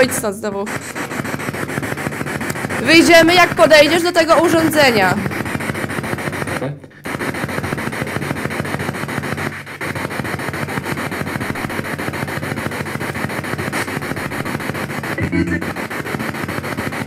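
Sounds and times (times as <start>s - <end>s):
pulsing radio static: 0.0s - 17.0s.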